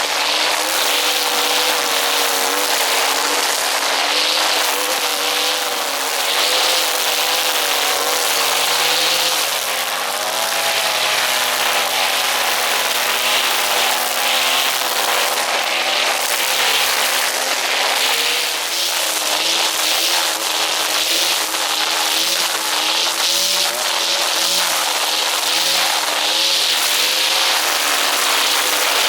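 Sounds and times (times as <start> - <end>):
brush cutter engine cutting grass: 0.0 - 29.0.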